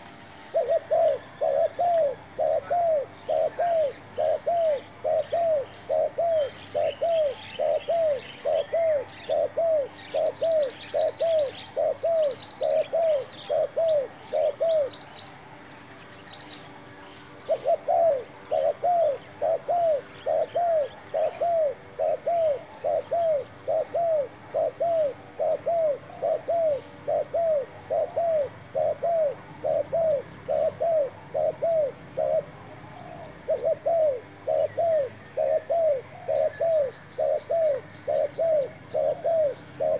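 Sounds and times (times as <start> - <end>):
dove cooing: 0.0 - 15.1, 17.4 - 39.9
small birds chirping: 0.0 - 39.9.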